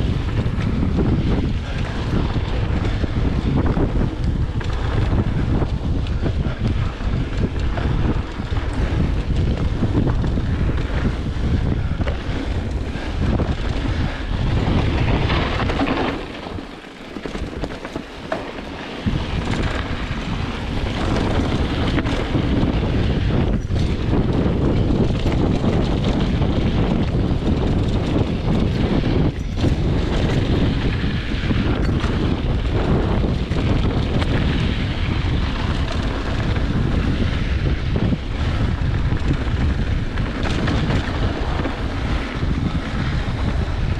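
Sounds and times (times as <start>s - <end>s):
bike tyres on dirt: 0.0s - 43.9s
wind buffeting microphone: 0.0s - 43.9s.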